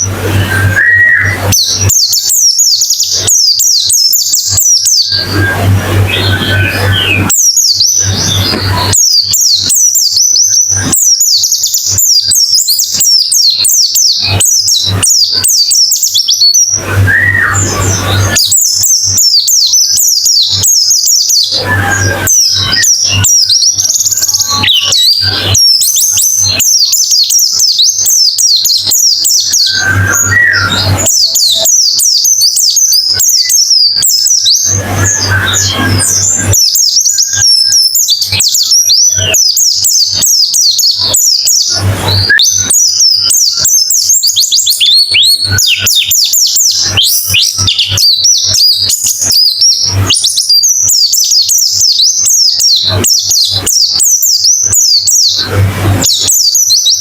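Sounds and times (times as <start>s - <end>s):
birds twittering: 0.0s - 57.0s.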